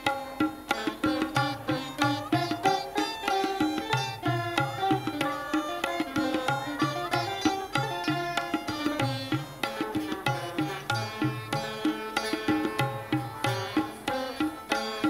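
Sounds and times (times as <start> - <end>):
plucked string ensemble: 0.0 - 15.0.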